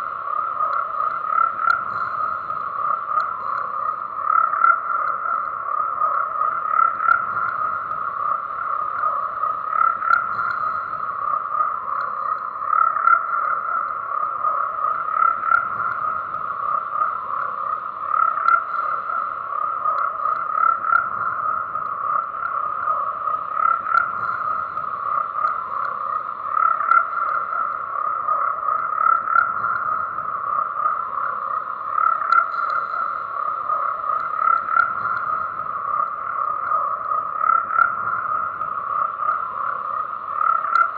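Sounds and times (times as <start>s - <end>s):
frogs croaking: 0.0s - 40.9s.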